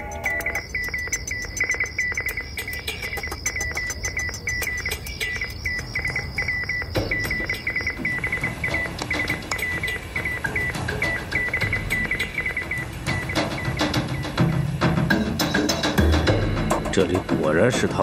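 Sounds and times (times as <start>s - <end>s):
high insect trill: 0.0s - 15.9s
crickets chirping: 0.0s - 16.0s.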